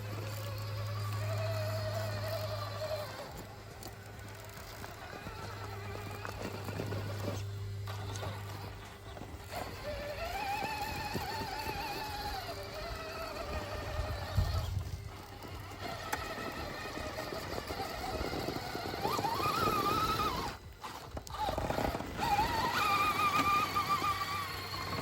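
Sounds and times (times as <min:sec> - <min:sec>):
electric motor and gear whine: 0:00.0 - 0:25.0.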